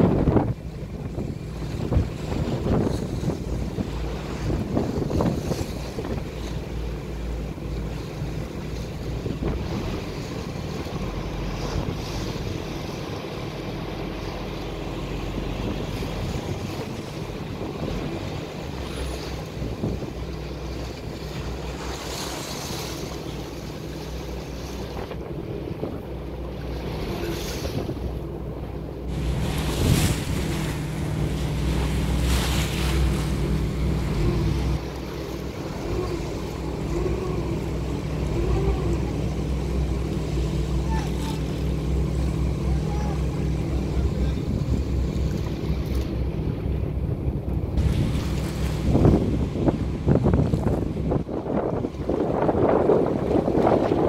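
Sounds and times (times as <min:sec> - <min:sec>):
wind on microphone: 0:00.0 - 0:06.8, 0:08.4 - 0:12.9, 0:15.2 - 0:21.4, 0:24.6 - 0:34.9, 0:35.5 - 0:54.0
boat engine humming: 0:00.0 - 0:54.0
waves splashing: 0:00.0 - 0:54.0.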